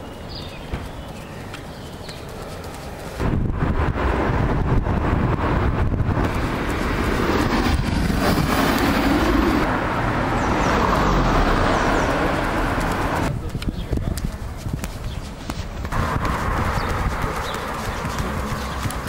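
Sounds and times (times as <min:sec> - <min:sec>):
road traffic noise: 0:00.0 - 0:19.0
wind on microphone: 0:03.1 - 0:19.0.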